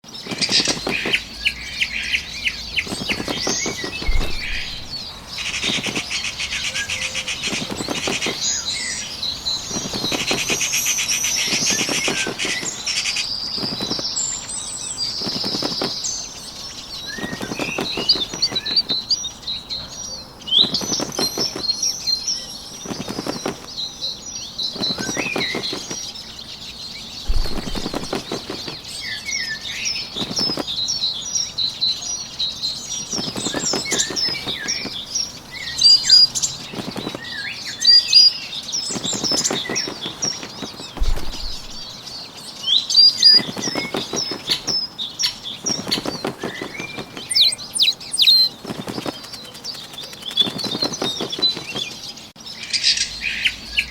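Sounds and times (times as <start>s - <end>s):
birdsong chirping: 0.0s - 53.9s
bird wings flapping: 0.1s - 19.3s, 20.4s - 31.6s, 32.9s - 42.2s, 42.9s - 52.2s.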